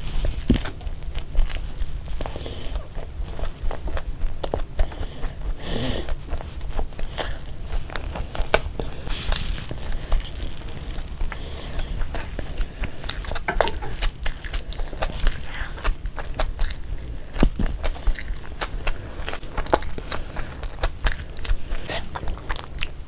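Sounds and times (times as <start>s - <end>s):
chewing and mouth sounds: 0.0s - 23.0s.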